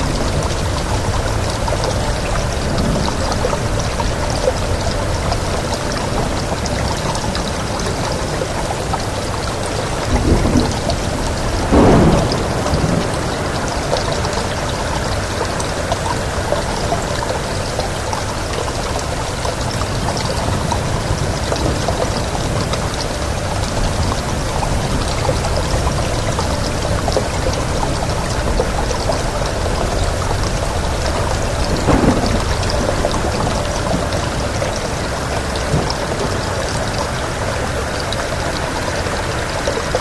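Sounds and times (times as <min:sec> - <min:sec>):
raindrop taps: 0:00.0 - 0:40.0
steady rain hiss: 0:00.0 - 0:40.0.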